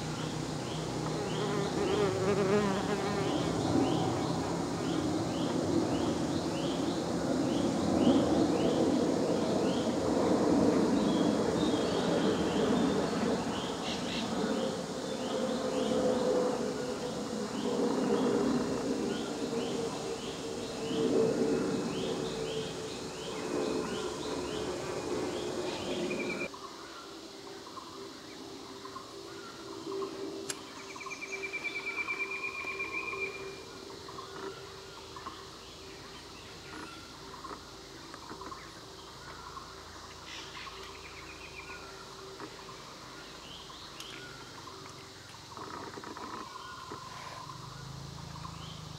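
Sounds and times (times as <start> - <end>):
buzzing insect drone: 0.0 - 48.9.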